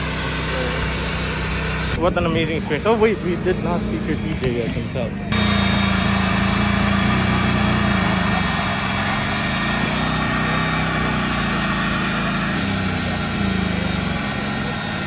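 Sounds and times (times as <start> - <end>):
motorcycle engine idling: 0.0 - 15.0
faint voices: 0.4 - 6.8, 7.6 - 15.0.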